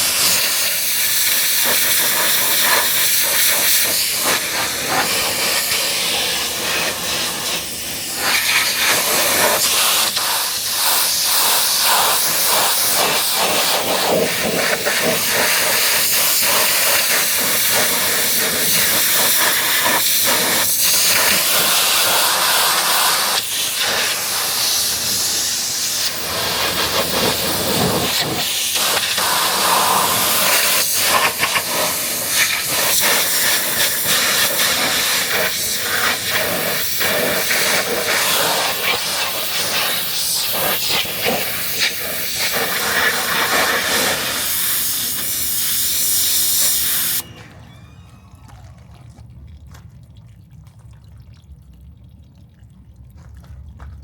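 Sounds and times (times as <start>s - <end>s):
pressure washer spraying: 0.0s - 47.3s.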